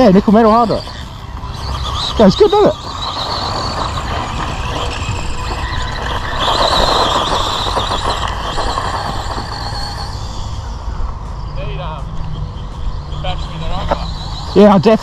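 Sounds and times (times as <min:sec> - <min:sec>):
rc car motor whining: 0:00.0 - 0:15.0.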